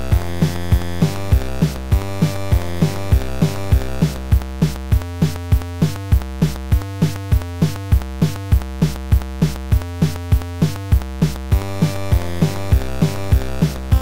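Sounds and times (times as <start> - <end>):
drum-machine beat: 0.0 - 14.0
synthesizer notes and chords: 0.0 - 14.0.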